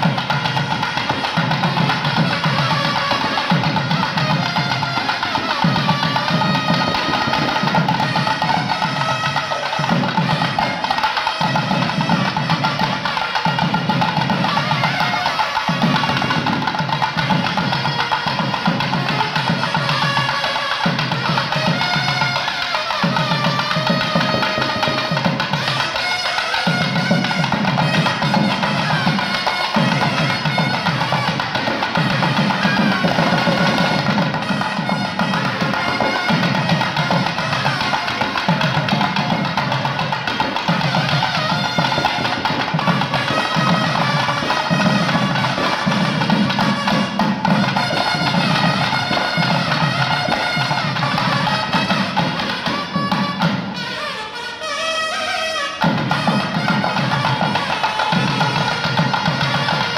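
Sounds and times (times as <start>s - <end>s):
rapid drum strokes: 0.0s - 54.7s
reedy double-reed melody: 0.0s - 59.9s.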